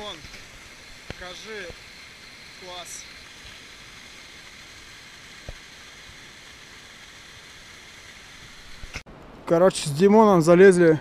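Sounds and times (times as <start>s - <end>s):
mountain stream rushing: 0.0s - 10.8s.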